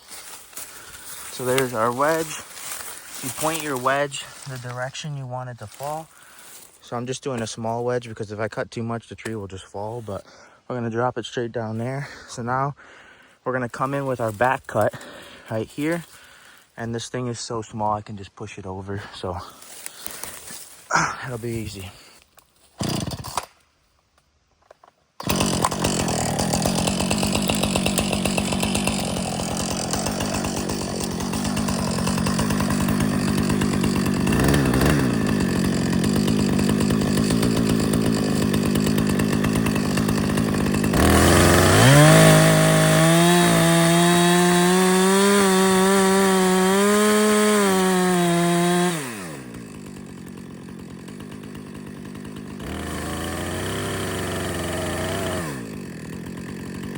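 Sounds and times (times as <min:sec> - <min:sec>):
chainsaw cutting wood: 0:00.0 - 0:08.3, 0:09.2 - 0:10.3, 0:13.6 - 0:16.7, 0:19.4 - 0:23.7, 0:25.2 - 0:56.9.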